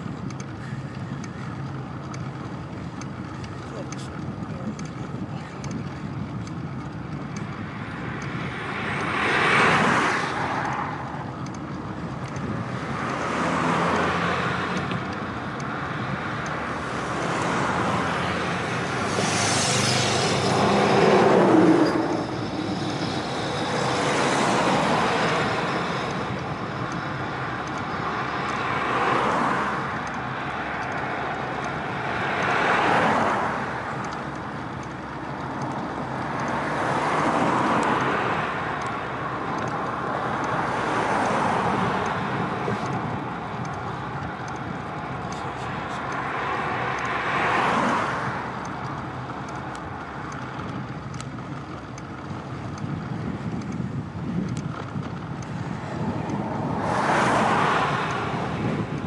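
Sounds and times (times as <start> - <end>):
cars passing by: 0.0 - 59.0
tyres humming on asphalt: 0.0 - 59.0.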